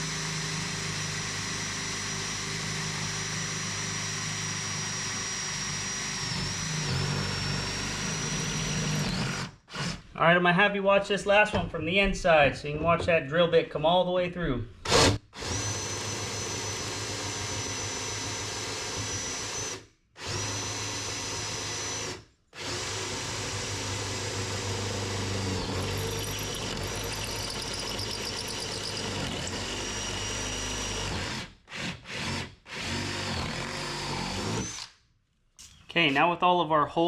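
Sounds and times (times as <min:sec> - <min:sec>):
power drill whining: 0:00.0 - 0:10.1, 0:14.8 - 0:35.0.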